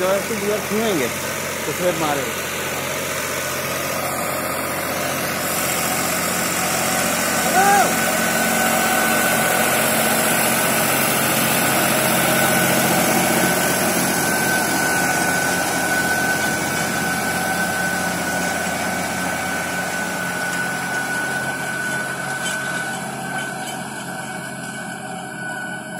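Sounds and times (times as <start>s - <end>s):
thin steady whine: 0.0s - 25.9s
tractor diesel engine running: 0.0s - 25.9s.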